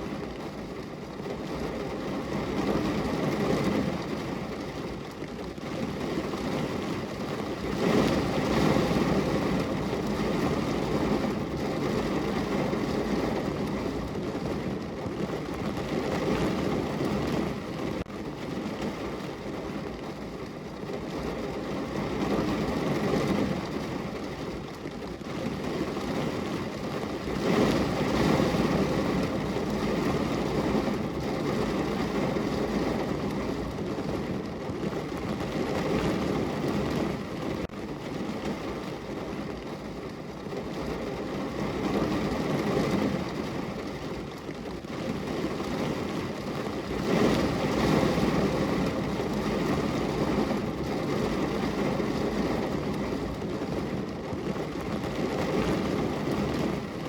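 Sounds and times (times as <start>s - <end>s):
heavy rain on car roof: 0.0s - 57.0s.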